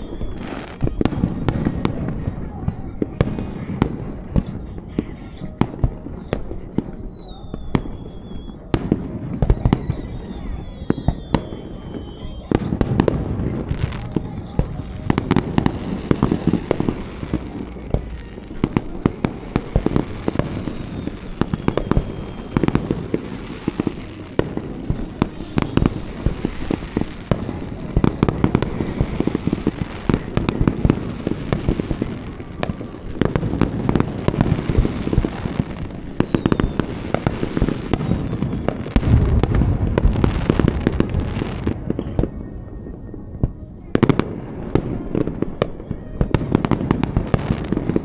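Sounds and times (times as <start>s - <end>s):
fireworks bursting: 0.0s - 48.0s
fireworks crackling: 0.0s - 48.0s
heavy fireworks booms: 0.0s - 48.0s.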